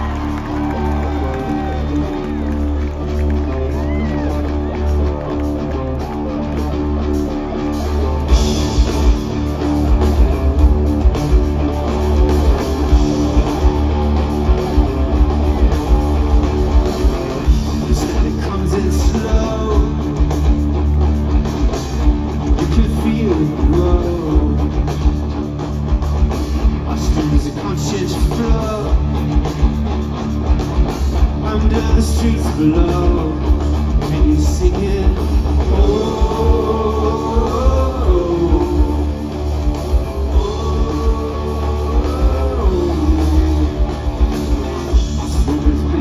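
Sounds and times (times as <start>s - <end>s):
drums: 0.0s - 46.0s
electric guitars: 0.0s - 46.0s.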